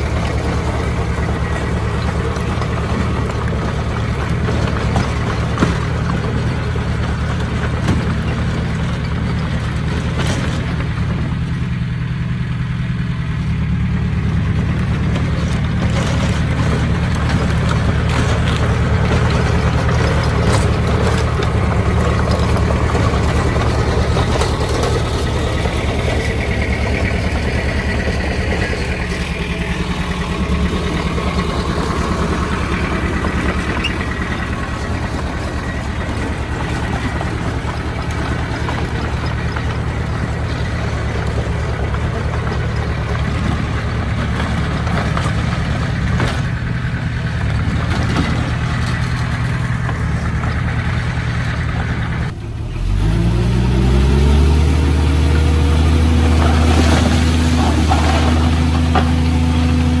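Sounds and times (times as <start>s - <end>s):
heavy diesel engine running: 0.0s - 60.0s.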